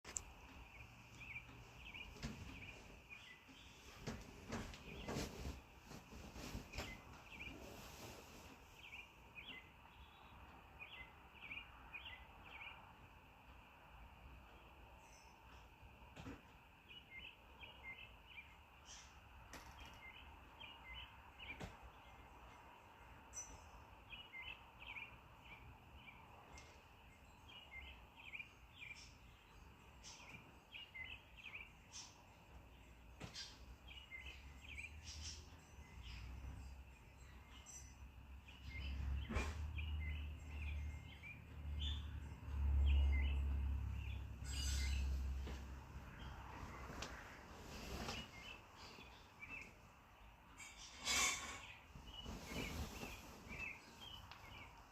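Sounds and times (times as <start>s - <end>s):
quiet outdoor background: 0.0s - 54.9s
small birds chirping: 0.1s - 54.9s.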